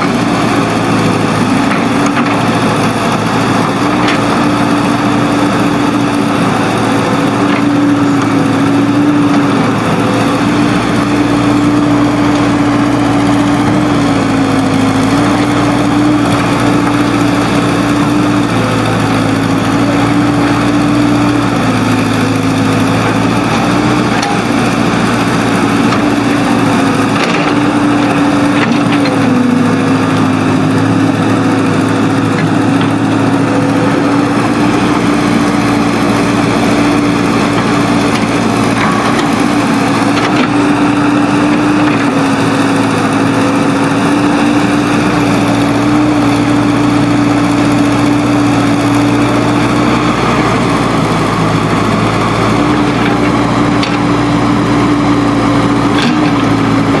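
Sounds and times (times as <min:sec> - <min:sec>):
earthmoving machine engine under load: 0:00.0 - 0:57.0.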